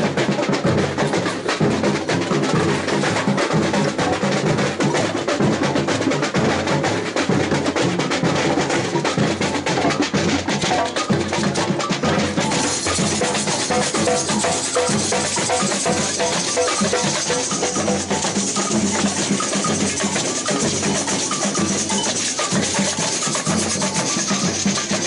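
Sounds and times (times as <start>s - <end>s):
bass drums: 0.0s - 25.0s
snare drums: 0.0s - 25.0s.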